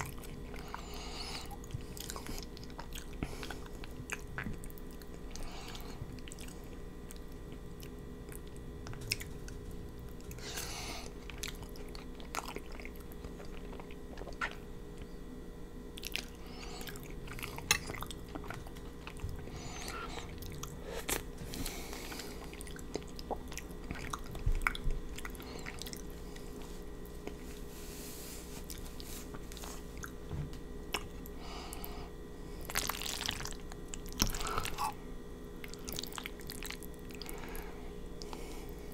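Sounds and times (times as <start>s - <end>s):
chewing and wet mouth sounds: 0.0s - 15.2s, 15.9s - 27.8s, 28.4s - 38.9s
low steady hum: 0.0s - 38.9s.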